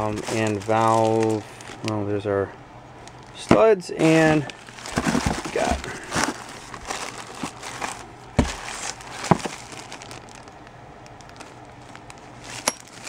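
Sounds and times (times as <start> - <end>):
plastic bags crinkling: 0.0 - 2.0, 4.0 - 13.0.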